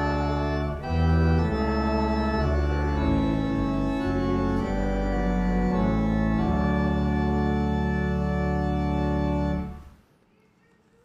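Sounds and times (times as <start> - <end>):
church organ playing chords: 0.0 - 10.0.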